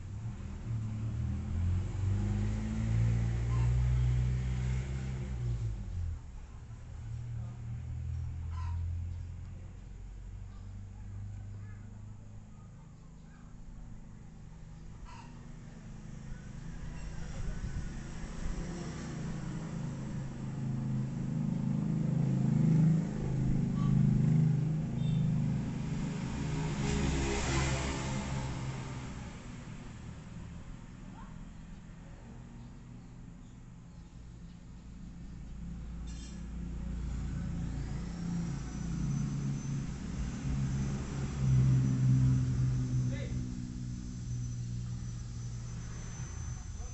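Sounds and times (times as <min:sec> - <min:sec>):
motor vehicle engine rumble: 0:00.0 - 0:46.9.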